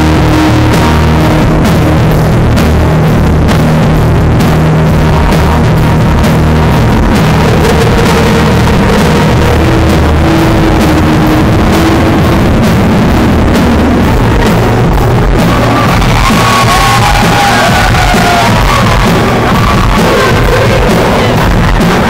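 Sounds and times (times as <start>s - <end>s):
bass guitar: 0.0s - 22.0s
drums: 0.0s - 22.0s.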